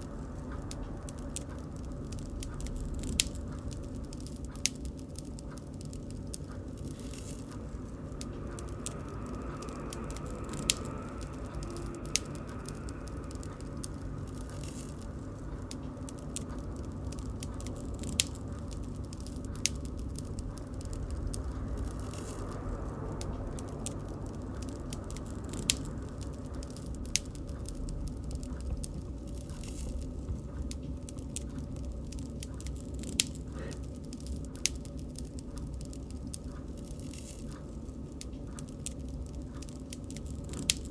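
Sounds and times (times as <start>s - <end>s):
bonfire flames rumbling: 0.0s - 40.9s
wood crackling: 0.0s - 40.9s.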